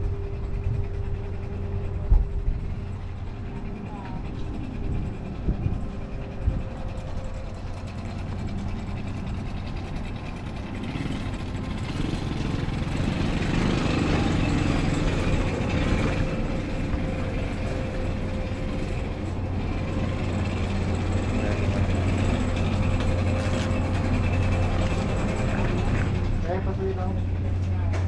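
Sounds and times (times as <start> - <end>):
large engine humming: 0.0 - 28.0.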